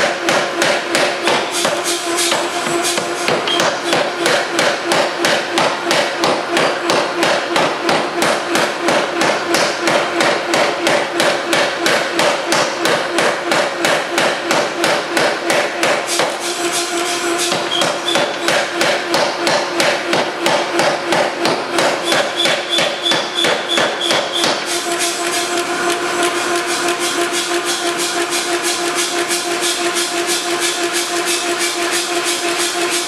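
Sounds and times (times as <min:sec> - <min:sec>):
forging hammer pounding metal: 0:00.0 - 0:33.0
steady hum: 0:00.0 - 0:33.0.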